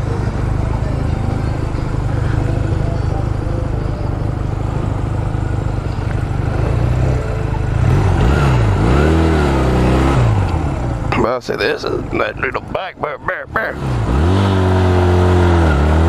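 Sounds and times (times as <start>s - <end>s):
motorcycle engine running: 0.0s - 12.6s, 13.3s - 16.0s.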